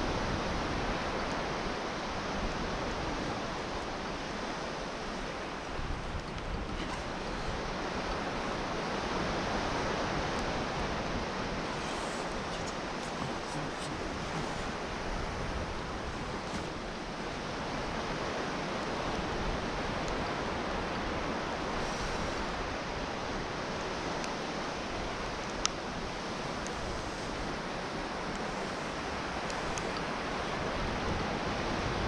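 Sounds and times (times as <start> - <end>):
surf washing onto a beach: 0.0 - 32.0.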